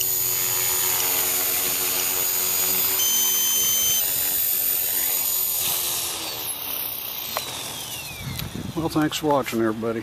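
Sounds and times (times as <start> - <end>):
rc helicopter rotor whining: 0.0 - 9.9.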